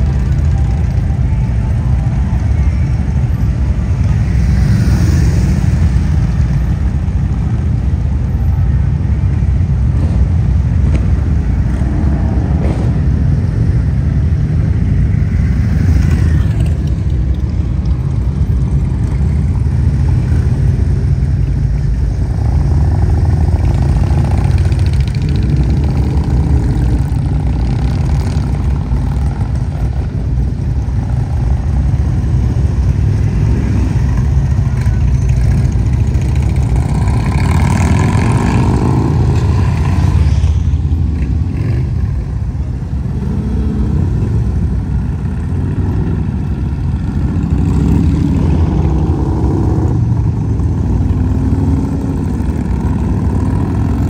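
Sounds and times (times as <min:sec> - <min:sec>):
motorcycle engines rumbling: 0:00.0 - 0:54.0.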